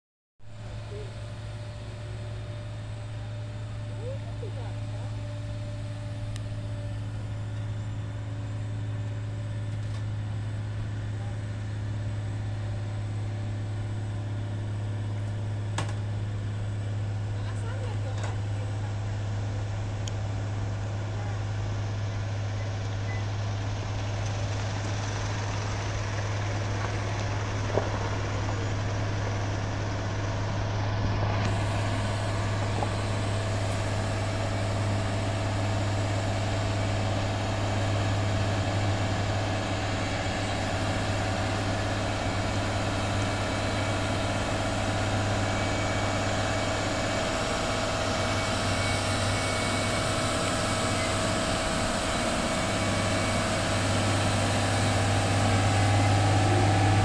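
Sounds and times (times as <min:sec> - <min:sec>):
diesel truck engine drone: 0:00.4 - 0:57.0.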